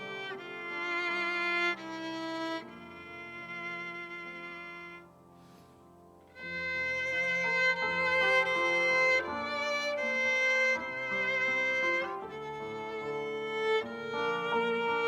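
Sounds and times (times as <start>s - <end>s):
violin playing long held notes: 0.0s - 5.1s, 6.3s - 15.0s.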